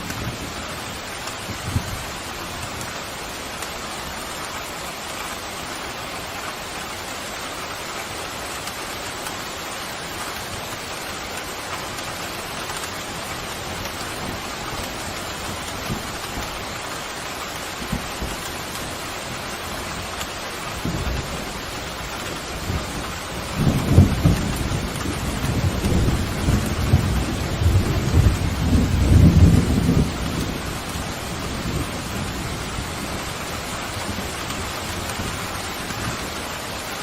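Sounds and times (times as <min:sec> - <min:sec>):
pouring rain: 0:00.0 - 0:37.0.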